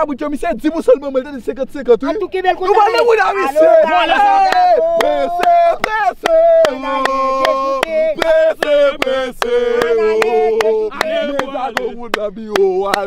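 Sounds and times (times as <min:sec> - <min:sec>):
men singing a chant: 0:02.5 - 0:13.0.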